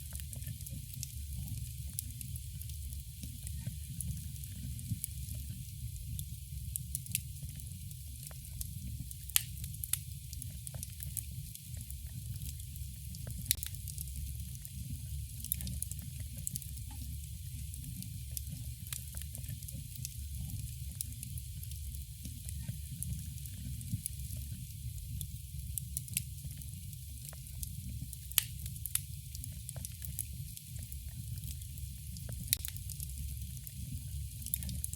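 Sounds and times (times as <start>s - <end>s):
campfire wood crackling and popping: 0.0s - 34.9s
low rumble of flames: 0.0s - 34.9s.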